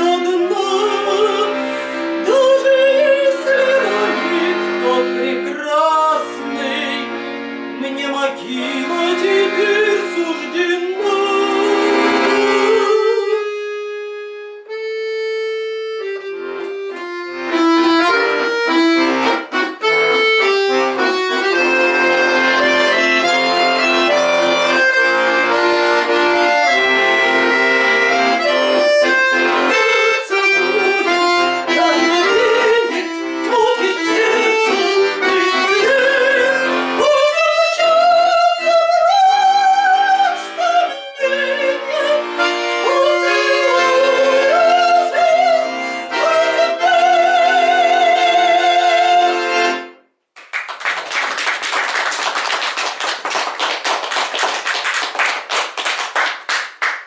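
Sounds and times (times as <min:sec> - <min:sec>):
instrumental music with held chords: 0:00.0 - 0:37.8, 0:40.3 - 0:50.2.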